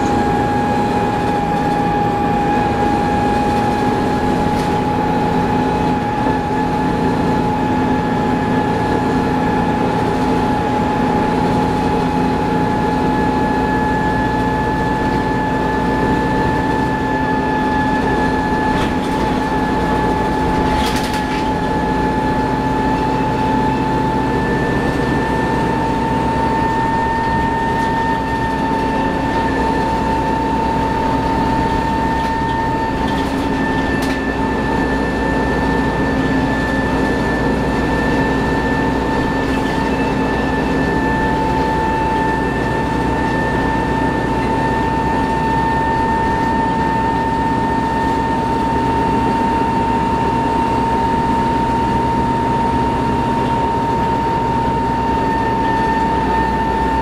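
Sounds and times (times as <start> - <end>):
bus diesel engine rumble: 0.0 - 57.0
high steady transmission whine: 0.0 - 57.0.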